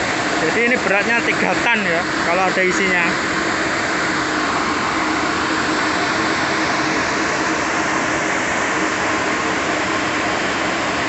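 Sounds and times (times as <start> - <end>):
construction machinery engine noise: 0.0 - 11.0.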